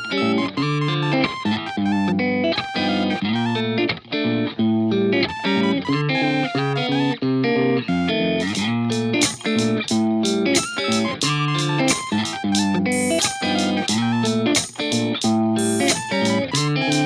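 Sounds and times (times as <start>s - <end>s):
plucked electric guitar music: 0.0s - 17.0s
bass guitar: 0.2s - 17.0s.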